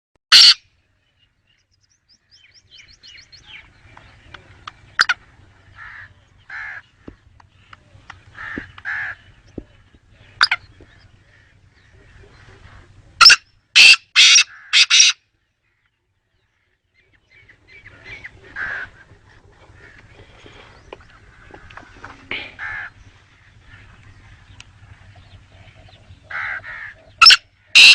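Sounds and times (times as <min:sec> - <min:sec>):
quieter bird calls: 0:00.3 - 0:27.9.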